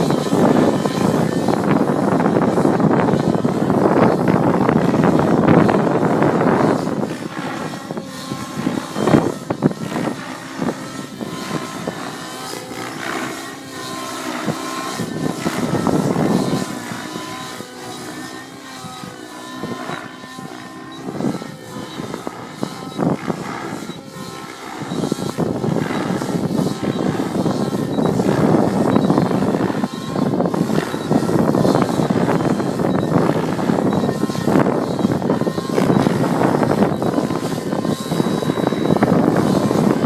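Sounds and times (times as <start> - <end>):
radio-controlled helicopter engine and rotor: 0.0 - 40.0
wind buffeting microphone: 0.0 - 40.0.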